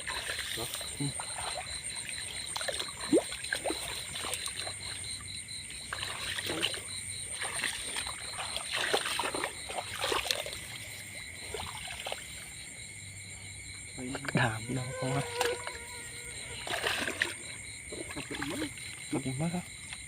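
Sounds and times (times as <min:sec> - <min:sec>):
water sloshing and splashing: 0:00.0 - 0:13.3, 0:13.9 - 0:20.0.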